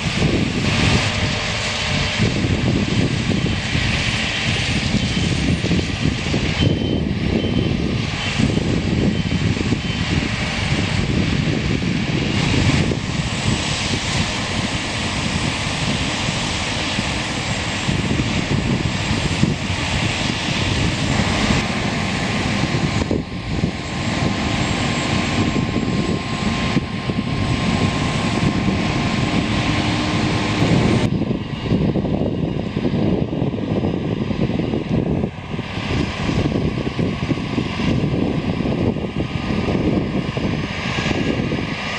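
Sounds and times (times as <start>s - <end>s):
combine harvester engine roar: 0.0s - 41.9s.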